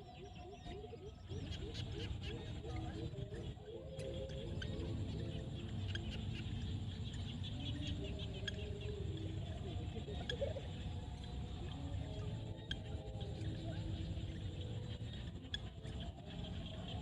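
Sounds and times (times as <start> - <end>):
faint wavering low tones: 0.0 - 17.0
frogs chirping: 0.0 - 17.0.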